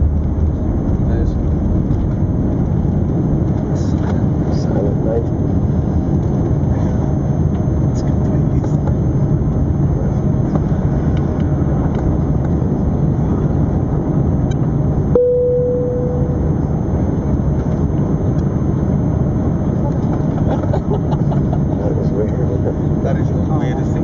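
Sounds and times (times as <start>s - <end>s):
aircraft cabin rumble: 0.0s - 24.0s.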